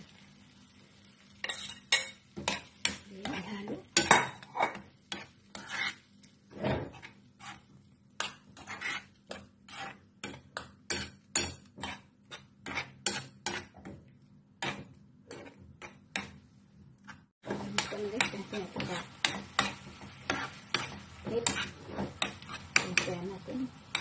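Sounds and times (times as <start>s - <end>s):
metal spoon scraping frying pan: 1.4s - 13.9s, 14.6s - 16.4s, 17.1s - 24.0s.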